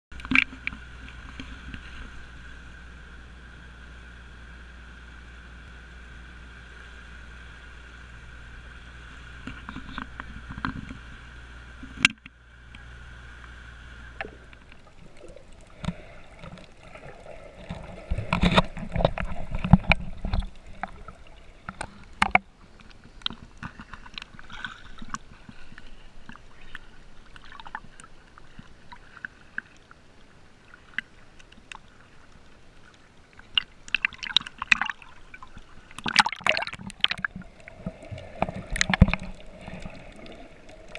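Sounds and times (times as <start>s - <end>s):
water sloshing and bubbling: 0.1s - 40.9s.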